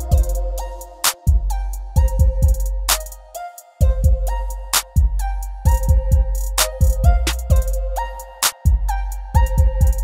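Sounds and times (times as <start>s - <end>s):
music with drum beat: 0.0s - 10.0s.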